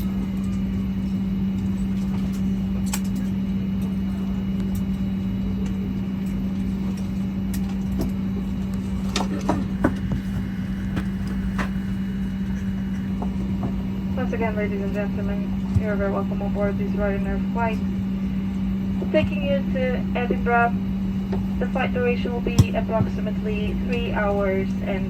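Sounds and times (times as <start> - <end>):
air-conditioning rush: 0.0 - 25.0
low cabin hum: 0.0 - 25.0.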